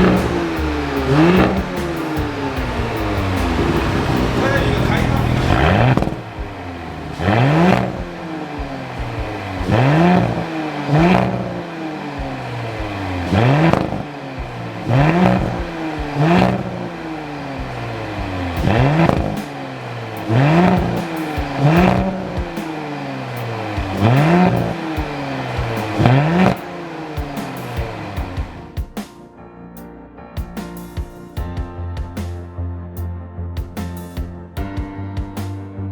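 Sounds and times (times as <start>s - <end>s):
car engine revving: 0.0s - 28.8s.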